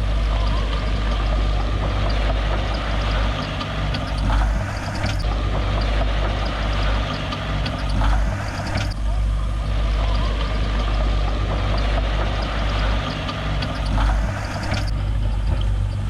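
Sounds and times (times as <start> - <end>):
heavy diesel engine running: 0.0 - 16.0
light clicks and clanks: 0.3 - 9.2, 10.0 - 16.0.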